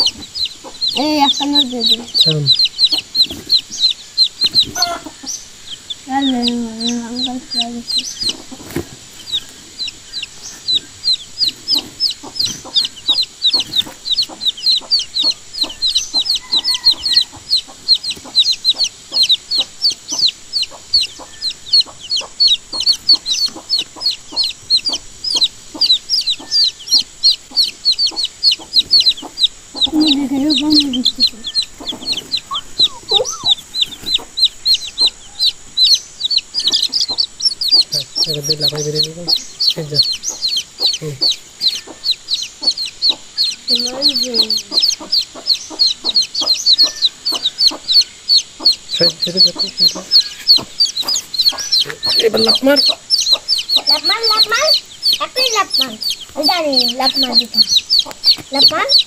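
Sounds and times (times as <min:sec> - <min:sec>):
baby chicks peeping: 0:00.0 - 0:59.0.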